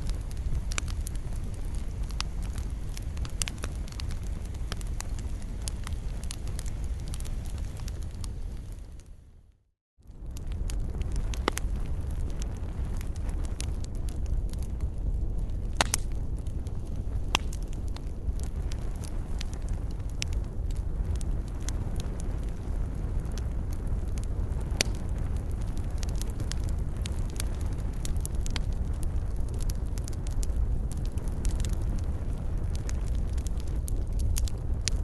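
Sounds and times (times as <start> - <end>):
low rumble of flames: 0.0 - 35.0
wood fire crackling and popping: 0.0 - 35.0.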